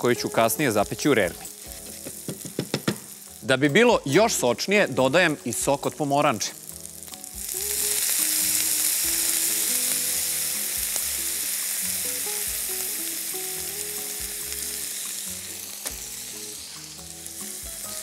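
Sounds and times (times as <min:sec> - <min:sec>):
juice sizzling in hot pan: 0:00.0 - 0:18.0.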